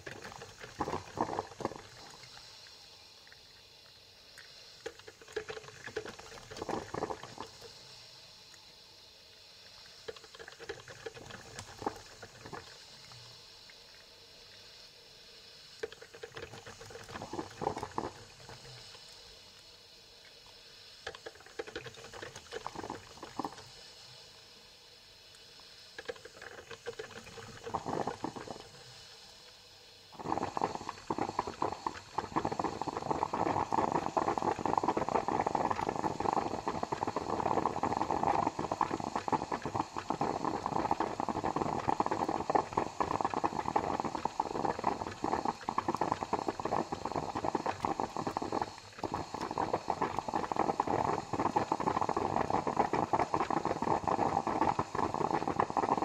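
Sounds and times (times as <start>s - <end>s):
coffee maker gurgling and bubbling: 0.0s - 7.9s, 9.7s - 14.6s, 15.8s - 19.3s, 20.2s - 24.2s, 26.0s - 29.3s, 30.1s - 56.0s.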